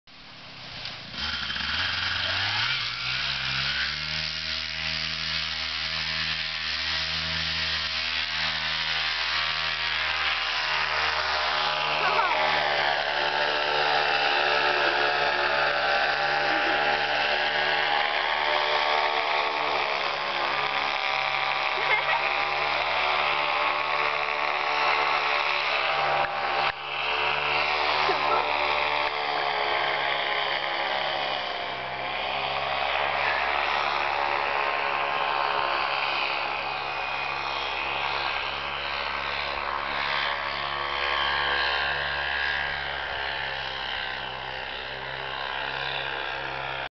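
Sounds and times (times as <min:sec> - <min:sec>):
paramotor engine and propeller: 0:00.1 - 0:46.9.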